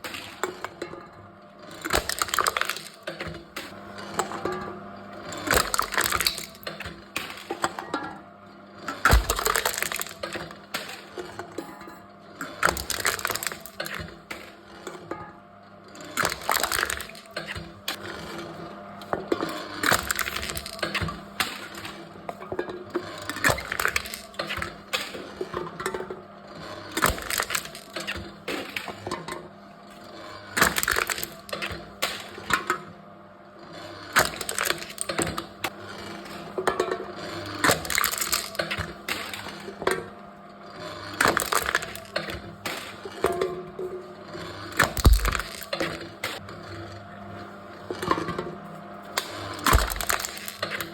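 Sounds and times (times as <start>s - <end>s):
machine crushing cans: 0.0s - 11.7s, 12.3s - 15.3s, 15.9s - 33.0s, 33.6s - 50.9s.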